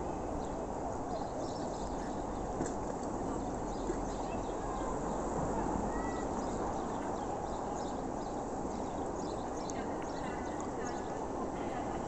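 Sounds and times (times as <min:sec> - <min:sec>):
low rushing outdoor noise: 0:00.0 - 0:12.0.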